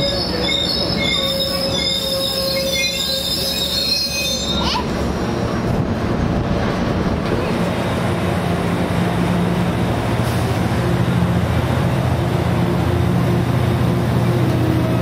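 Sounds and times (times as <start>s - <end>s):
diesel locomotive drone: 0.0s - 15.0s
train cars rolling by: 0.0s - 15.0s.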